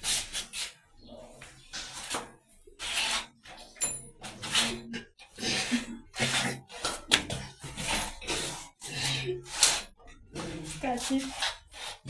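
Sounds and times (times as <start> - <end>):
rasping strokes: 1.7 - 12.0.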